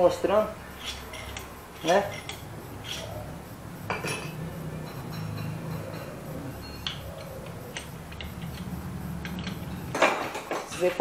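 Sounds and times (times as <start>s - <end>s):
low steady hum: 0.0s - 10.9s
metal tools clinking on engine: 0.6s - 11.0s.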